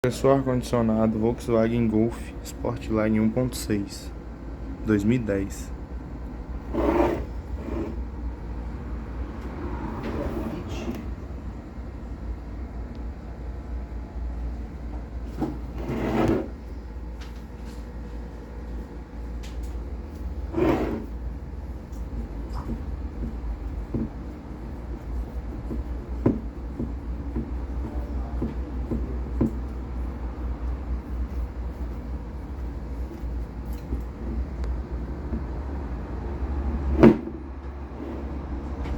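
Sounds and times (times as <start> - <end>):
air conditioning compressor humming: 0.0 - 38.9.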